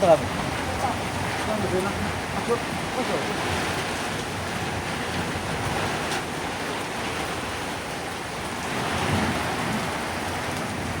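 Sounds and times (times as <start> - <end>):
heavy rain with hail: 0.0 - 11.0.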